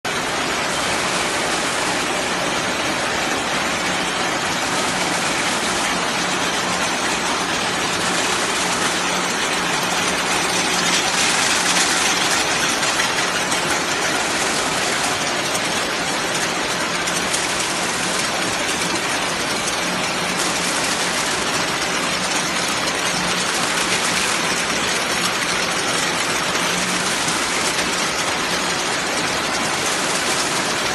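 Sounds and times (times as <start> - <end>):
conveyor and machinery humming: 0.1 - 30.9.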